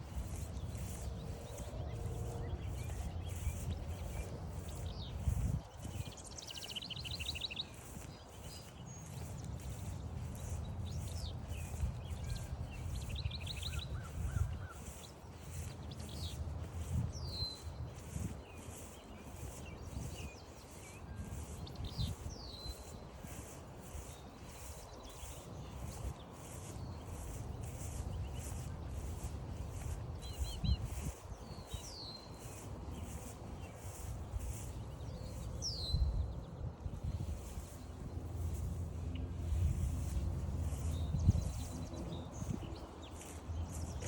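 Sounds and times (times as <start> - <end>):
footsteps on trail: 0.0 - 36.4, 37.0 - 44.0
birds calling and singing: 0.0 - 44.0.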